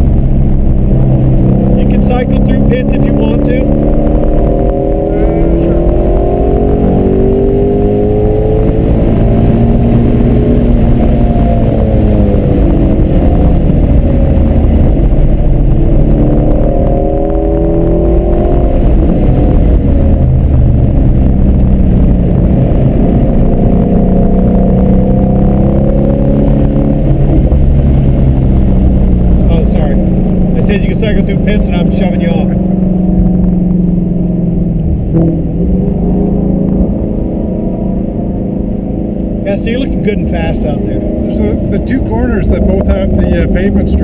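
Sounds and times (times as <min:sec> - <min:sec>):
car engine revving from inside cabin: 0:00.0 - 0:44.0.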